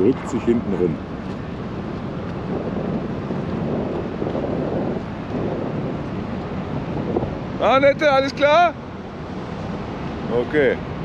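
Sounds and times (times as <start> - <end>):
ship engines: 0.0 - 11.0
wind on microphone: 0.0 - 11.0.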